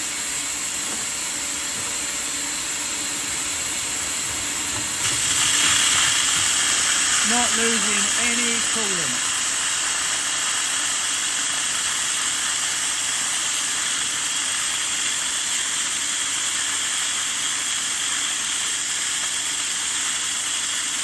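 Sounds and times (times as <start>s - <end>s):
vacuum cleaner hiss: 0.0s - 21.0s.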